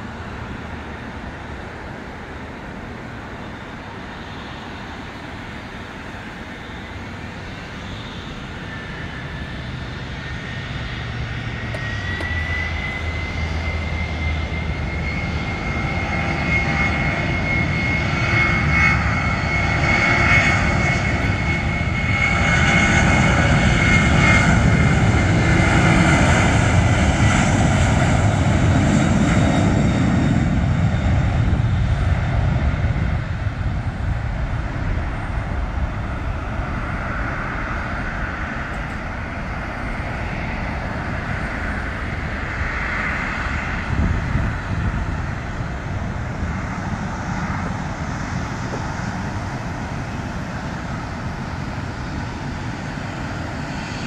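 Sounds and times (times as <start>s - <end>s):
jet engines spooling up: 3.6s - 54.0s.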